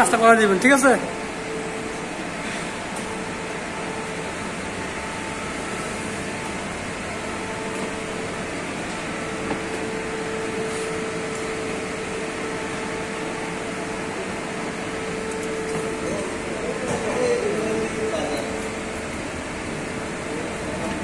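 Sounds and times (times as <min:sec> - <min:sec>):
cooling fans whirring: 0:00.0 - 0:21.0.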